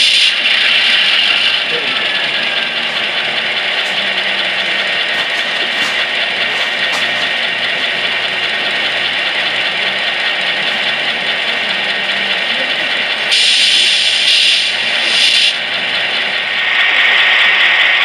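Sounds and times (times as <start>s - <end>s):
model locomotive engine idling: 0.0s - 18.0s.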